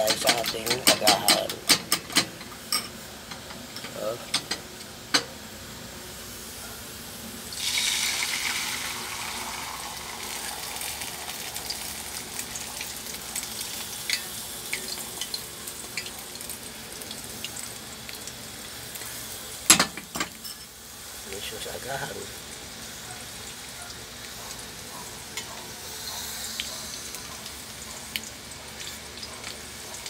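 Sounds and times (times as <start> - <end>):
egg sizzling in hot oil: 0.0 - 30.0.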